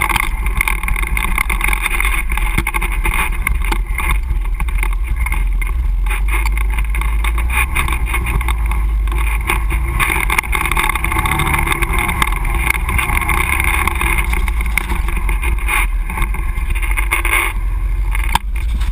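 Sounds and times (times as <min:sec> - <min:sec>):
knocks and rattles: 0:00.0 - 0:18.9
quad bike engine running: 0:00.0 - 0:18.9.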